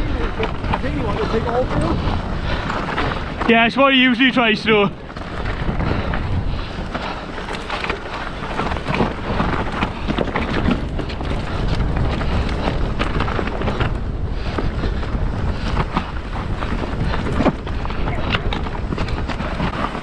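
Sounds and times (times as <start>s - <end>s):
bike knocks and rattles: 0.0s - 4.3s, 5.0s - 20.0s
bike tyres rolling: 0.0s - 20.0s
wind rushing over microphone: 0.0s - 20.0s.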